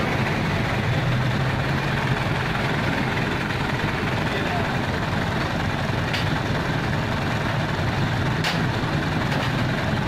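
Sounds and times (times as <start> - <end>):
truck engine running at low revs: 0.0 - 10.0.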